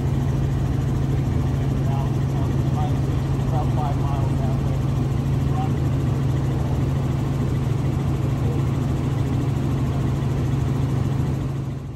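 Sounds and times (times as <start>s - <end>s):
helicopter engine and rotor drone: 0.0s - 11.9s.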